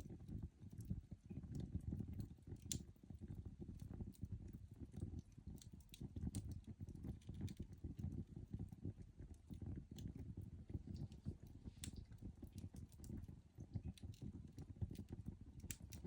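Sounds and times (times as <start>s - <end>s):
low fire rumble: 0.0s - 16.0s
fire crackling and popping: 0.1s - 16.0s.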